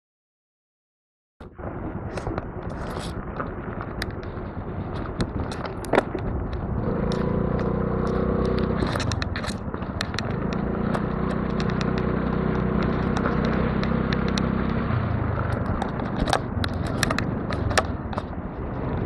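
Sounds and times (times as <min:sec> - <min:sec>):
tyres crackling over gravel: 0:02.2 - 0:19.0.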